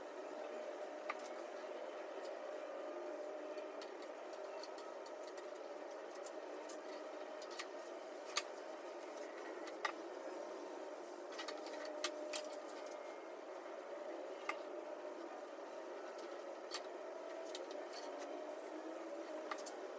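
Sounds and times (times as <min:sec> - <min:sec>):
steady background hum: 0:00.0 - 0:19.9.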